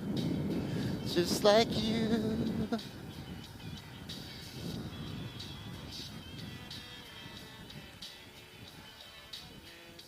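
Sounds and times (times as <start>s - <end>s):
faint instrumental music: 0.0s - 10.0s.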